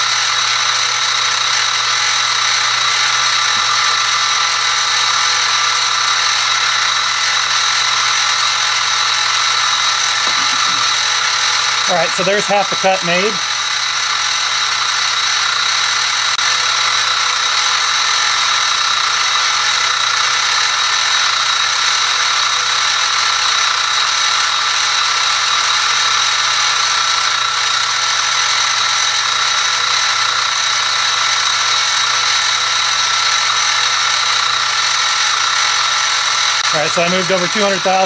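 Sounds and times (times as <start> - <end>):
mill spindle whining: 0.0 - 38.0.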